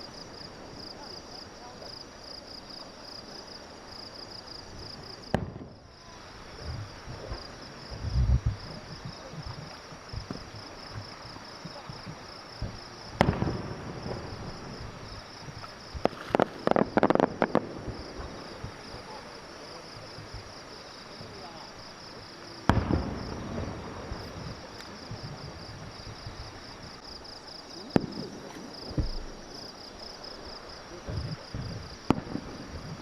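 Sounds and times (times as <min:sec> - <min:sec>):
fireworks bangs and booms: 0:00.0 - 0:33.0
insects chirring: 0:00.0 - 0:33.0
crackling bangs: 0:04.8 - 0:05.9, 0:06.6 - 0:33.0.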